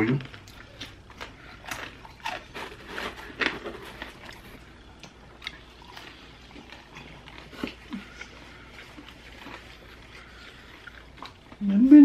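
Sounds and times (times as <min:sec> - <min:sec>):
chewing and biting food: 0:00.2 - 0:11.6.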